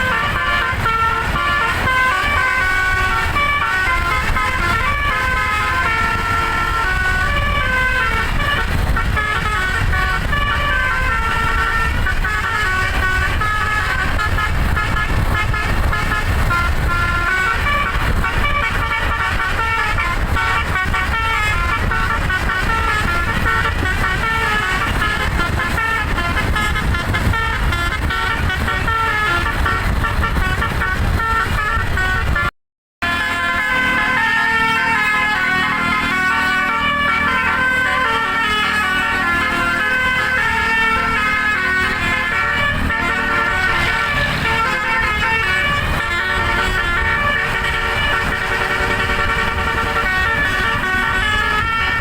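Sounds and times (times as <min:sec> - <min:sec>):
low engine rumble: 0:00.0 - 0:52.0
musical air horn melody: 0:00.0 - 0:52.0.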